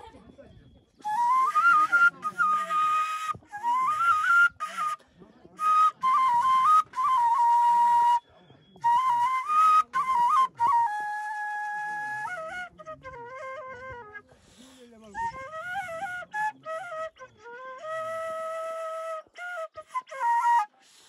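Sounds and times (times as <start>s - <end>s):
solo flute melody: 1.0s - 21.0s.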